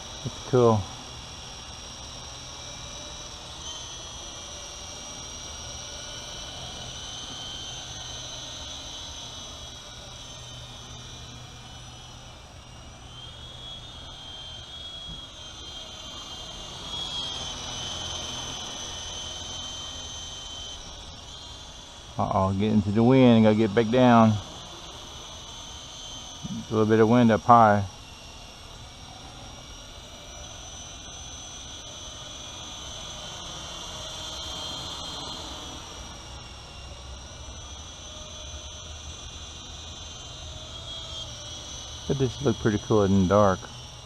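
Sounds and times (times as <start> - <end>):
rc helicopter whine: 0.0 - 44.0.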